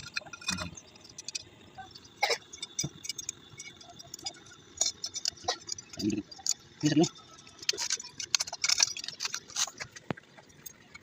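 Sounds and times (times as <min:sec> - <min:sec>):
metal parts clicking and knocking: 0:00.0 - 0:11.0.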